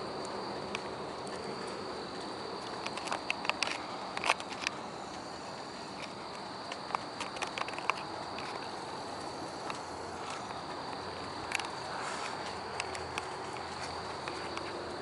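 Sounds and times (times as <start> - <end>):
insects chorus: 0.0 - 15.0
sharp clicks and ticks: 0.2 - 5.3, 6.0 - 15.0.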